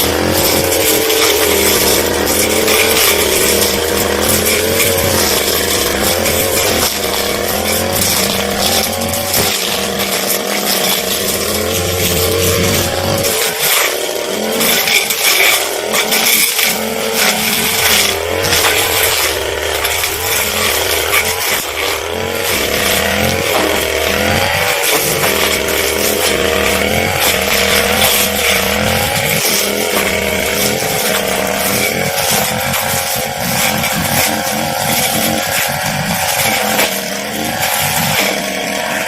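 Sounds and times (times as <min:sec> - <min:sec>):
brush cutter engine at high revs: 0:00.0 - 0:39.0.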